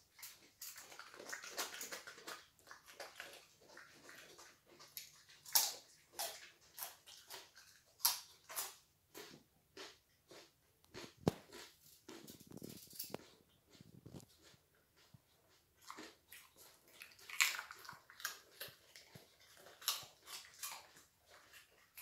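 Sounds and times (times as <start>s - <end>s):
dog crunching carrot: 0.0s - 22.0s.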